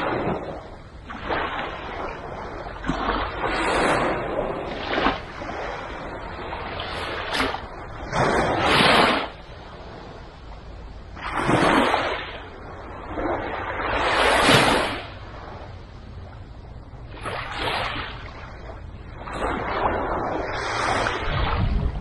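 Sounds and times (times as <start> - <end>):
small waves washing on sand: 0.0 - 10.5, 11.1 - 16.4, 17.1 - 22.0
low steady rumble: 0.0 - 22.0.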